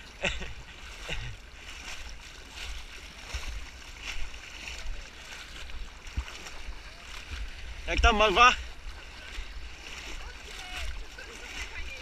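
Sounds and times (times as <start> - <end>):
legs wading through water: 0.0 - 12.0.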